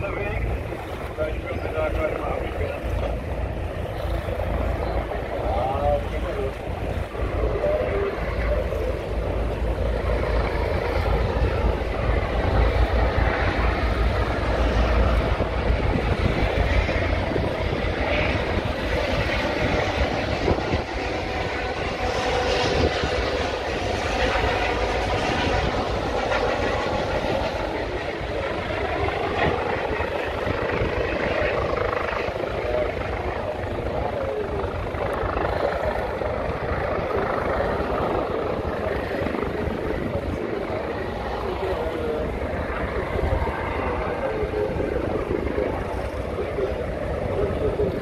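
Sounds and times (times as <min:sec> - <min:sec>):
heavy low rumble: 0:00.0 - 0:48.0
helicopter rotor drone: 0:00.0 - 0:48.0.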